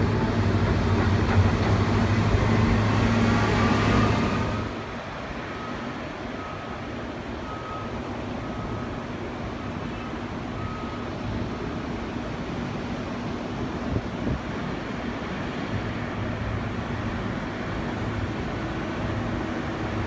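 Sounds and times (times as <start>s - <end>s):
distant heavy machinery engine: 0.0s - 20.0s
wind: 0.0s - 20.0s.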